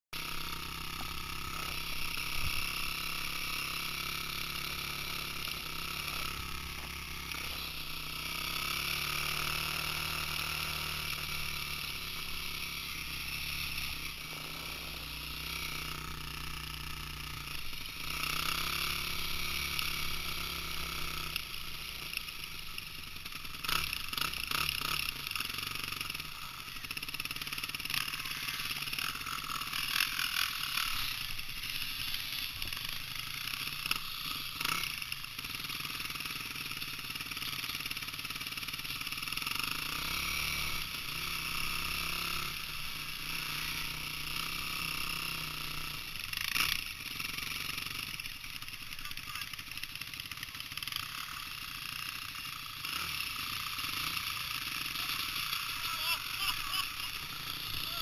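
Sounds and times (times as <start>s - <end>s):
dirt bike engine running: 0.1s - 58.0s.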